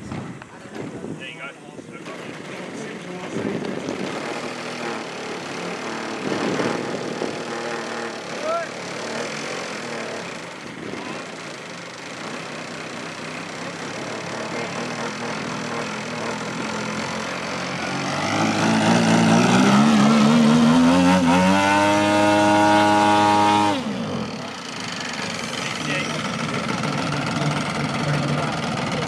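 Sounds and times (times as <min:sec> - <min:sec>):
model aircraft engines running: 0:00.4 - 0:29.0.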